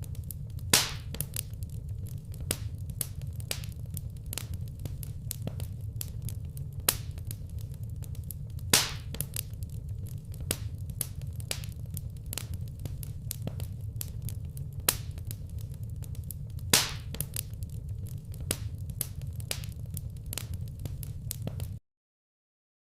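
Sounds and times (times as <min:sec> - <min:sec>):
loud fire pops: 0:00.0 - 0:21.8
wood fire crackling: 0:00.0 - 0:21.8.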